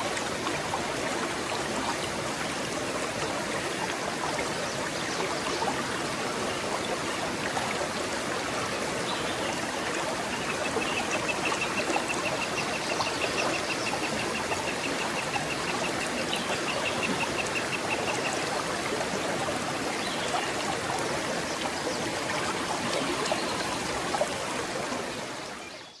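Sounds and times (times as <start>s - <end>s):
stream flowing over rocks: 0.0s - 26.0s.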